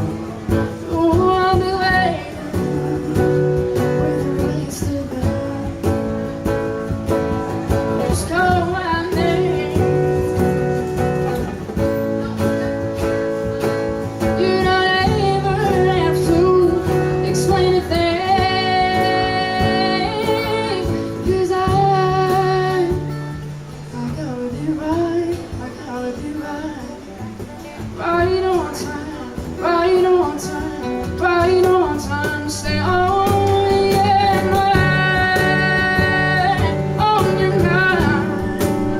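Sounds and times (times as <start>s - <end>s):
strummed acoustic guitar: 0.0s - 38.9s
woman singing: 0.0s - 38.9s.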